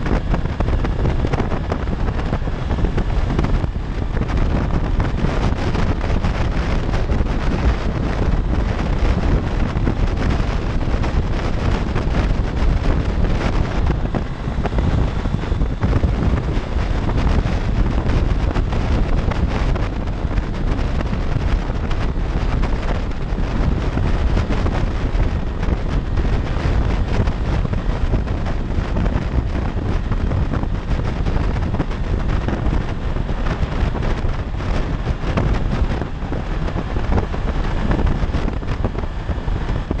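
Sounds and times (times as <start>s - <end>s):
motorcycle engine: 0.0s - 40.0s
road noise: 0.0s - 40.0s
wind buffeting microphone: 0.0s - 40.0s.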